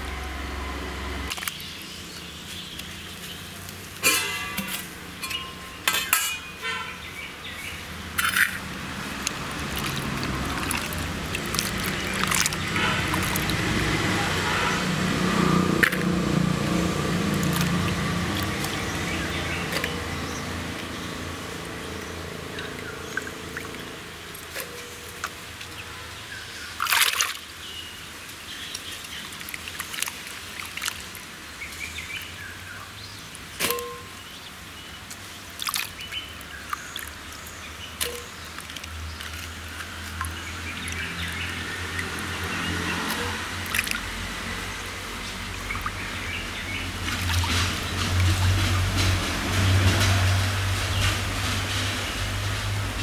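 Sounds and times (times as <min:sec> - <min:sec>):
water splashing and trickling: 0:00.0 - 0:53.0.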